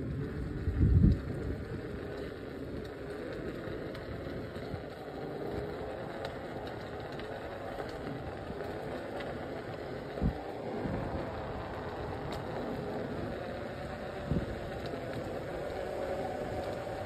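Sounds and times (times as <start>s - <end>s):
steady outdoor rumble: 0.0s - 17.0s.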